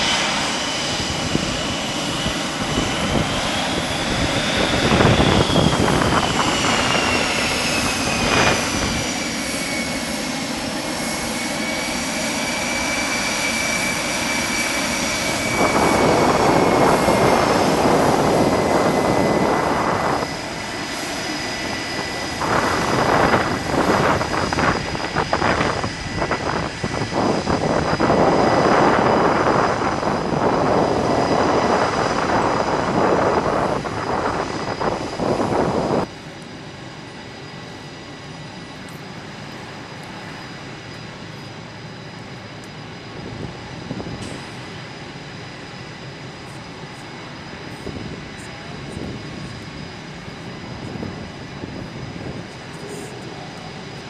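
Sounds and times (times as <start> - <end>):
high turbine whine: 0.0 - 54.0
jet engines running: 0.0 - 54.0.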